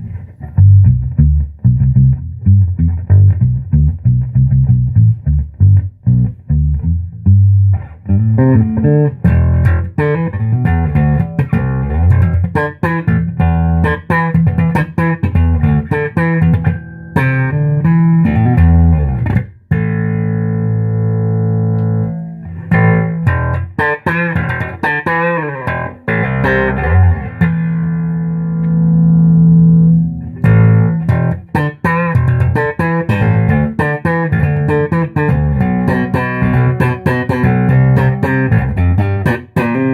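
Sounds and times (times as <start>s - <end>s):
plucked bass guitar notes: 0.0s - 39.9s.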